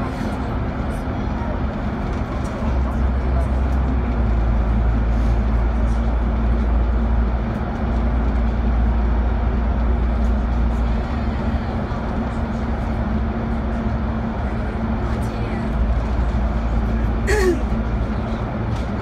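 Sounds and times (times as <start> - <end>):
bus engine drone: 0.0 - 19.0
road and tyre noise: 0.0 - 19.0.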